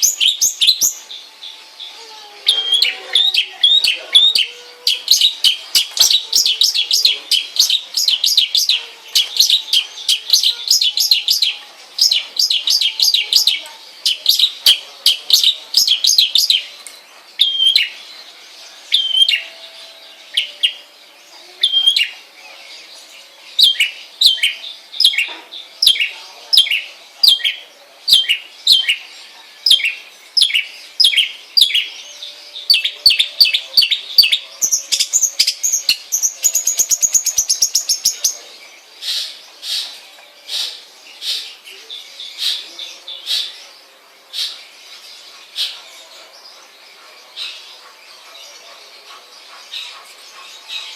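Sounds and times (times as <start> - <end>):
bird singing high chirps: 0.0 - 50.9.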